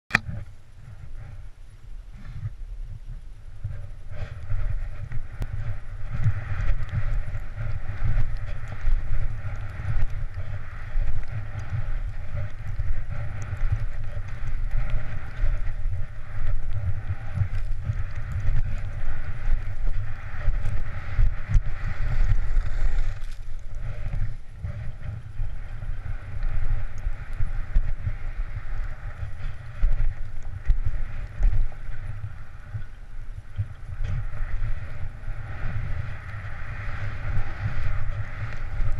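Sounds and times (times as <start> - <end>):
wind buffeting microphone: 0.1 - 38.9
skis scraping over snow: 2.1 - 38.9.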